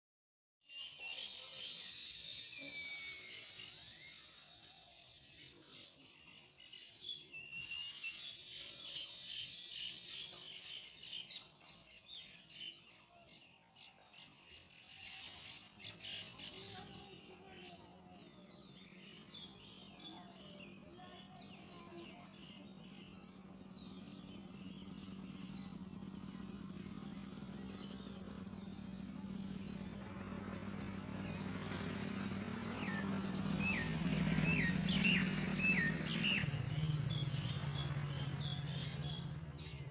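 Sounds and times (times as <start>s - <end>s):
weaver birds twittering: 0.7s - 39.9s.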